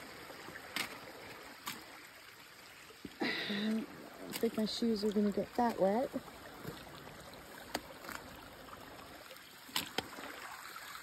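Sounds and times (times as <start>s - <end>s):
stream splashing over rocks: 0.0s - 11.0s.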